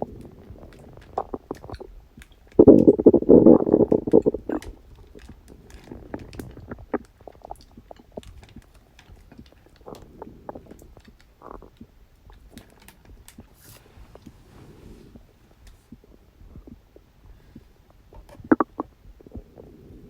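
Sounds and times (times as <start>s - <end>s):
stomach growling and gurgling: 0.0s - 20.0s.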